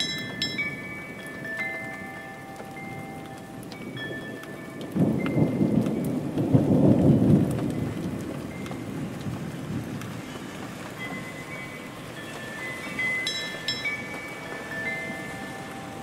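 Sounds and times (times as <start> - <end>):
steady rain: 0.0 - 16.0
thunder rumbling: 2.0 - 16.0.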